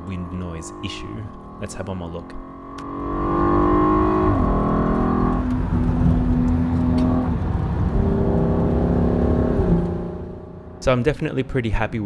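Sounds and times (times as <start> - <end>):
car engine revving: 0.0 - 11.0
road rumble: 0.0 - 12.0.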